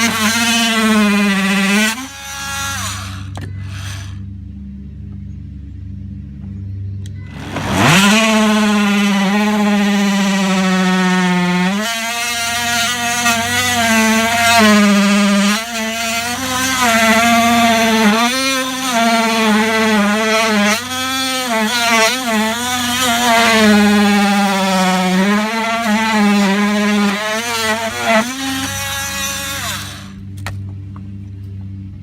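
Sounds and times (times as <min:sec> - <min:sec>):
oscillating multi-tool cutting wood: 0:00.0 - 0:04.3, 0:07.3 - 0:30.6.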